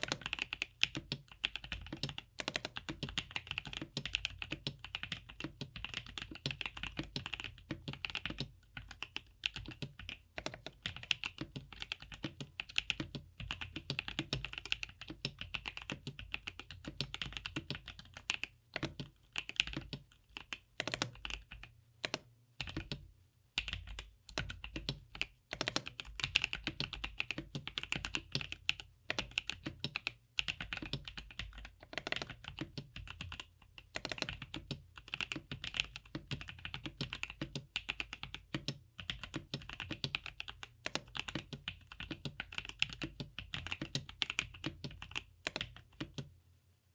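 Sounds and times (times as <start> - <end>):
mechanical keyboard typing: 0.0 - 23.0, 23.6 - 46.3.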